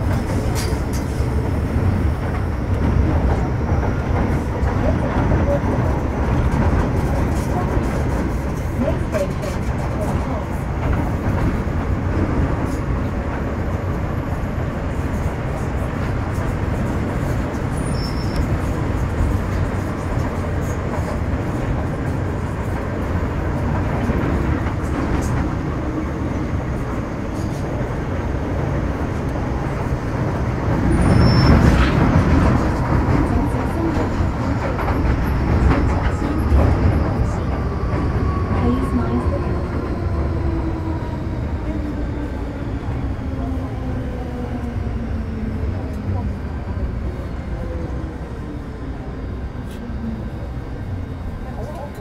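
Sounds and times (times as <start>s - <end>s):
train wheel and rail rumble: 0.0s - 52.0s.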